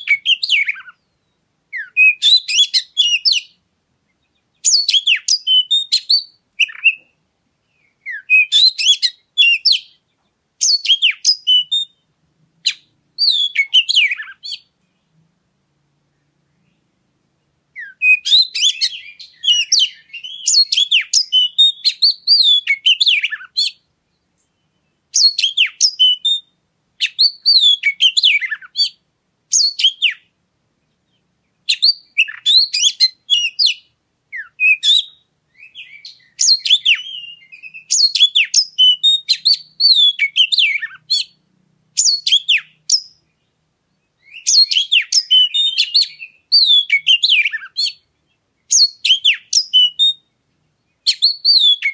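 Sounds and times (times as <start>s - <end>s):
magpie-robin singing: 0.0s - 15.1s, 16.2s - 51.9s.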